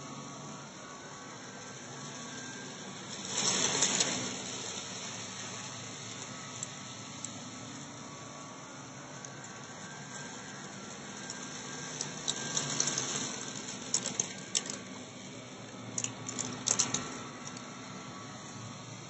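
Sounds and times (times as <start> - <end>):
upright vacuum cleaner running: 0.0 - 19.0
grains rattling through vacuum: 1.6 - 8.1, 9.1 - 19.0.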